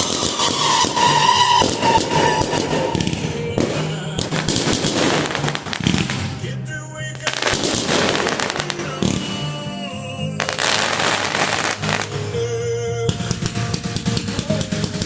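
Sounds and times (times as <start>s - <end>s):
fireworks crackling: 0.0s - 15.0s
music playing: 0.0s - 15.0s.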